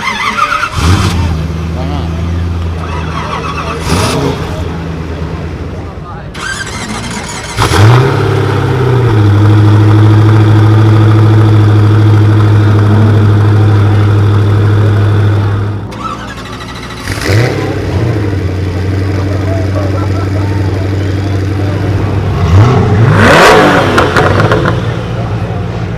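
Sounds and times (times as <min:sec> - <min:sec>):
sports car engine starting and idling: 0:00.0 - 0:25.9.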